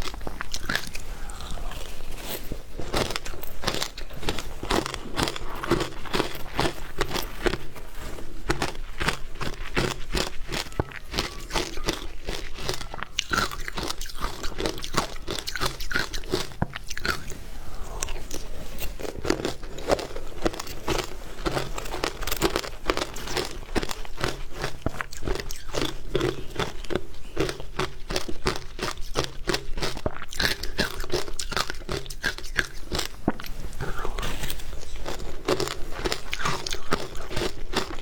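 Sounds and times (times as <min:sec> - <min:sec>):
biting and chewing frozen ice: 0:00.0 - 0:38.0.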